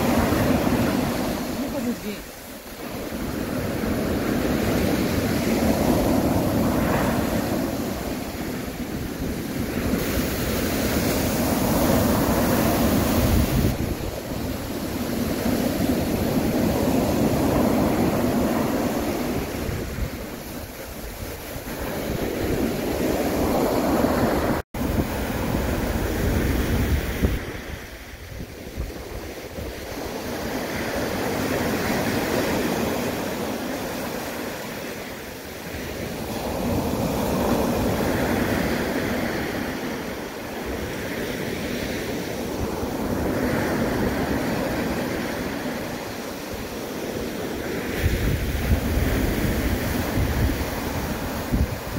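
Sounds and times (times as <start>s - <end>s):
sea waves breaking on beach: 0.0s - 51.9s.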